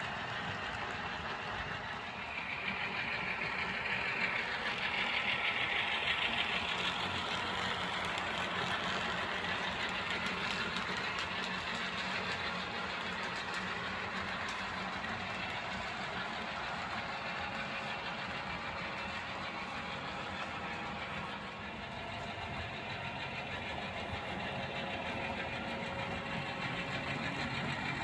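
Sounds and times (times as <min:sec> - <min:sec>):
model train whirring on rails: 0:00.0 - 0:28.0.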